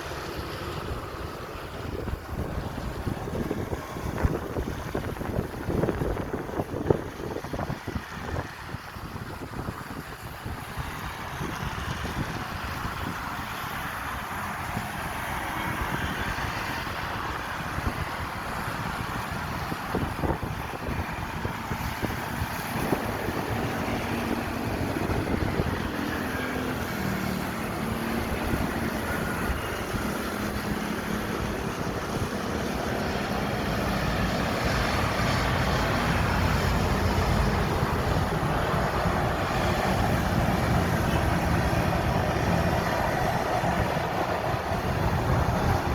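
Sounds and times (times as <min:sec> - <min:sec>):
jet engine and airflow rush: 0:00.0 - 0:45.9.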